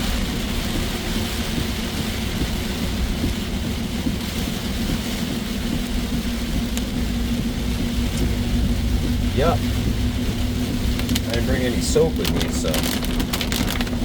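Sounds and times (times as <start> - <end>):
car engine rumble: 0.0 - 14.0
constant hum: 0.0 - 14.0
road noise: 0.0 - 14.0.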